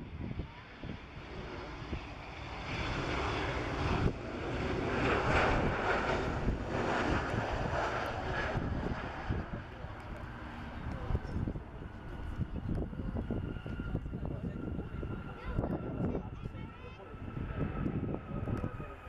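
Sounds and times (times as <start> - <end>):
jet roaring past: 0.0 - 19.0.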